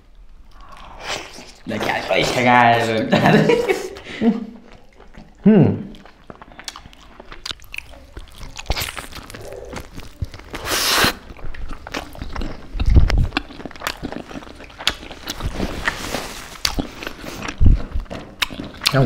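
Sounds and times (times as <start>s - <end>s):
chewing with wet mouth clicks: 0.4s - 2.1s, 3.9s - 19.0s.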